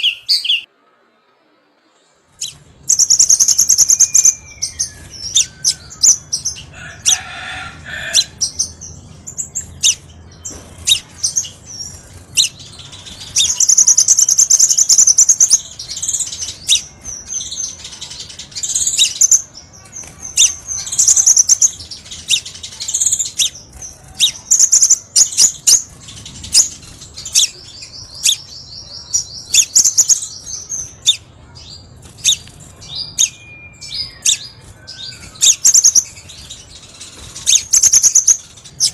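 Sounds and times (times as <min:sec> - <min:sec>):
bird singing chirps and trills: 0:00.0 - 0:01.0, 0:01.9 - 0:38.9.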